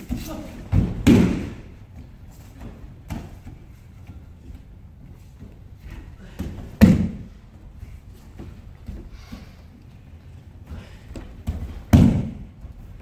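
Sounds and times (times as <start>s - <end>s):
bare feet shuffling on mats: 0.0s - 13.0s.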